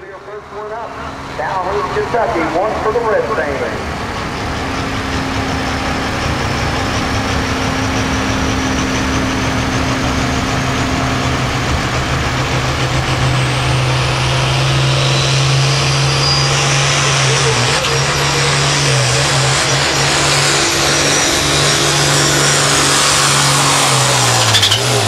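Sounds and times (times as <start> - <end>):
tractor diesel engine running: 0.0 - 25.0
high whine rising in pitch: 0.2 - 25.0.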